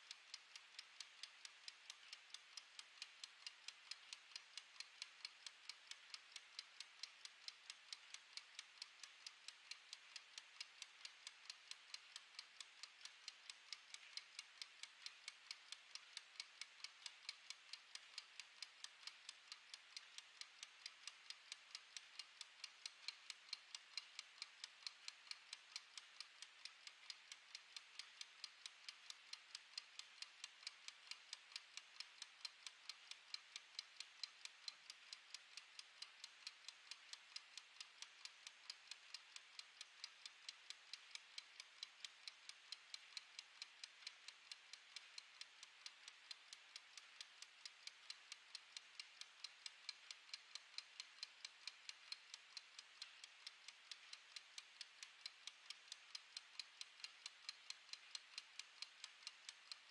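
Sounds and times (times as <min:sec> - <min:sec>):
kitchen timer ticking: 0:00.0 - 0:59.9.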